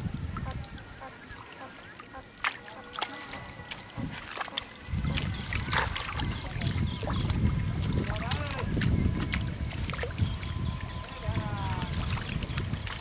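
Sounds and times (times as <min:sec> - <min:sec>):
muddy water rushing: 0:00.0 - 0:13.0.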